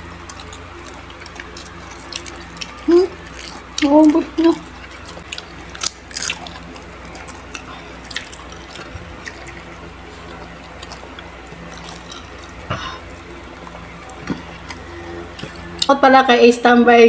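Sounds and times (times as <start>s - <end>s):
chewing crispy food: 0.0s - 16.1s
steady low hum: 0.0s - 17.0s.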